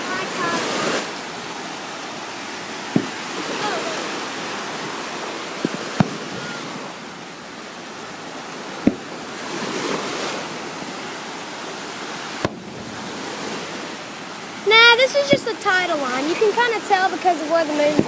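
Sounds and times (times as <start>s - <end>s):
ocean surf washing in: 0.0s - 18.0s.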